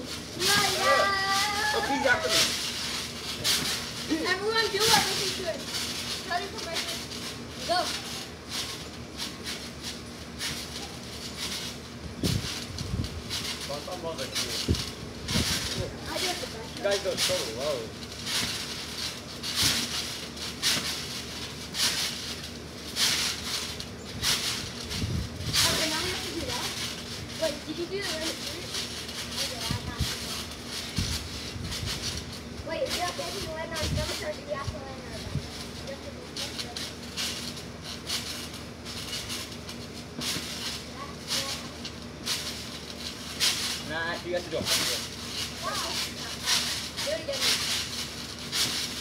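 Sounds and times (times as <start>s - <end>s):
trampoline springs hissing and rustling: 0.0s - 49.0s.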